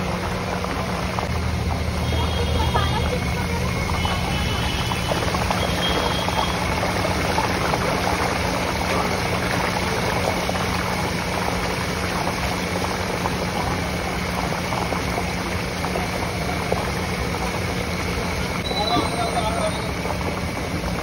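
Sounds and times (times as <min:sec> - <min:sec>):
chips sizzling in hot oil: 0:00.0 - 0:21.0.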